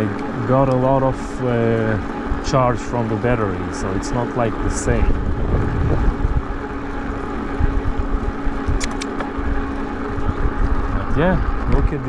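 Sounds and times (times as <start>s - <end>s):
electric motor hum: 0.0s - 12.0s
wind buffeting microphone: 1.6s - 12.0s.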